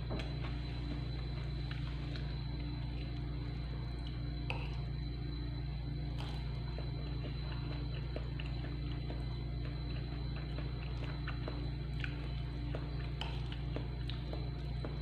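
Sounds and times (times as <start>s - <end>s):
soft chewing: 0.0s - 15.0s
steady low hum: 0.0s - 15.0s.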